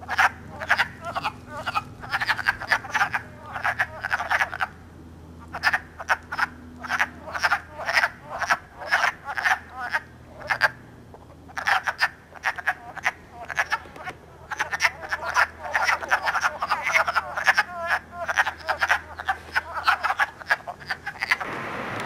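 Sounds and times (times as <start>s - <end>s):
frogs calling: 0.0s - 21.5s.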